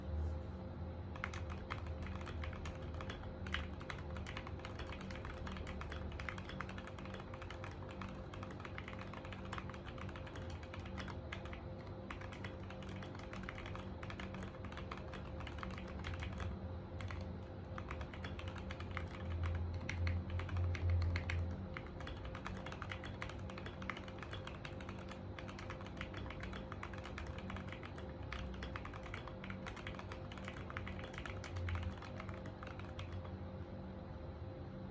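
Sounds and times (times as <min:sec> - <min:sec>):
fast mechanical keyboard typing: 0:01.1 - 0:33.4.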